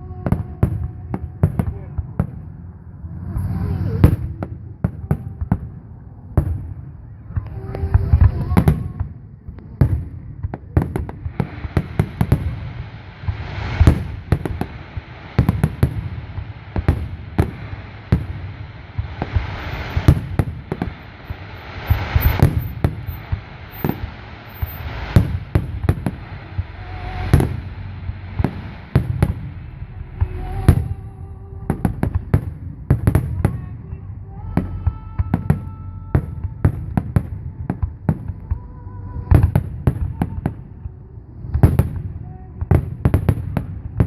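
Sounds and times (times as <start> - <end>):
fireworks bangs and booms: 0.0 - 34.0, 34.6 - 44.0
fireworks crackling: 0.0 - 44.0.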